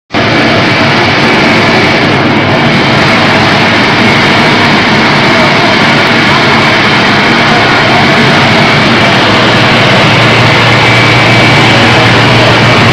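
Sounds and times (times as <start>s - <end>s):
high whine: 0.1s - 12.9s
rice milling machine whirring: 0.1s - 12.9s.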